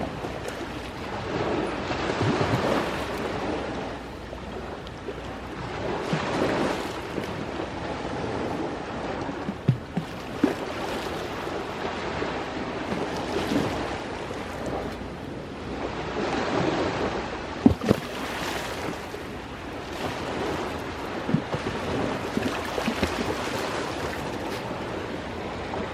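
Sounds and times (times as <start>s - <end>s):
sea waves washing onto shore: 0.0s - 25.9s.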